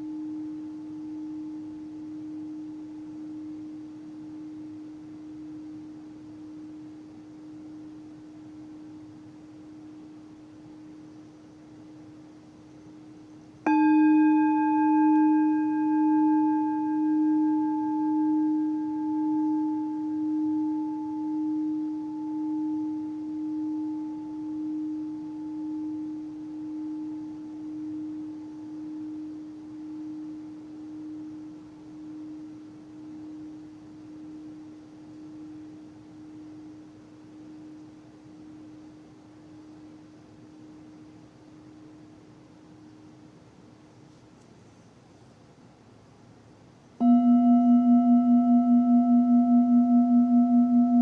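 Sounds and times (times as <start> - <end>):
singing bowl ringing: 0.0 - 11.3, 13.6 - 42.1, 47.0 - 51.0.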